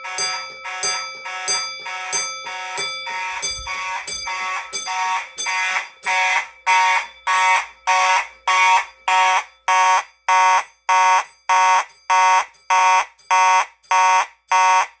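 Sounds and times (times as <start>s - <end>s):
fire alarm horn pulsing: 0.0s - 15.0s.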